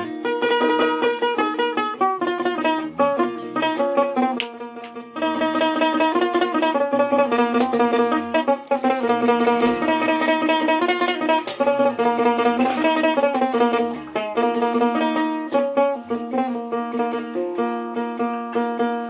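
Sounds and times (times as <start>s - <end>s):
plucked lute playing: 0.0s - 19.0s.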